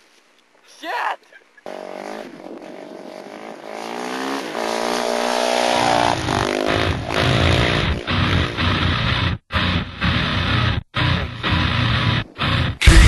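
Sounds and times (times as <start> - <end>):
dirt bike engine accelerating: 1.6 - 13.0.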